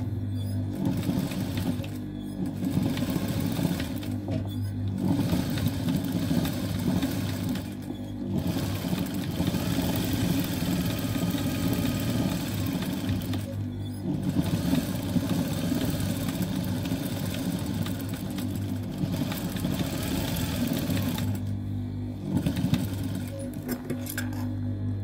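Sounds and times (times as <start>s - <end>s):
sewing machine stitching: 0.6s - 21.5s, 22.2s - 24.2s.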